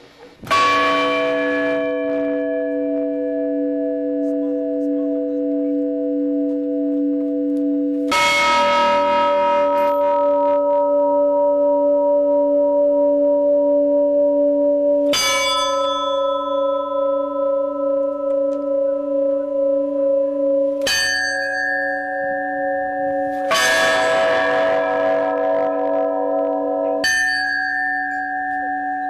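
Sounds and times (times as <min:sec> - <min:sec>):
church bell strokes ringing: 0:00.4 - 0:29.0.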